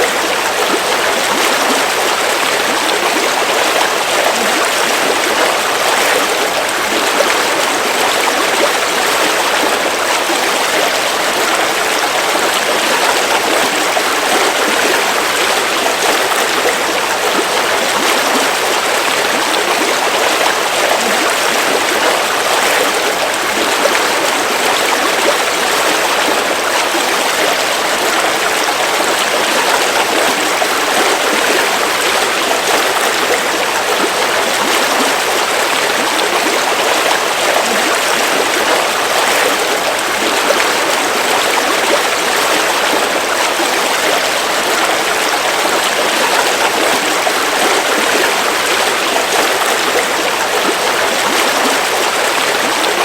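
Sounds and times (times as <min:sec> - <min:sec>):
stream water flowing over rocks: 0:00.0 - 0:53.0.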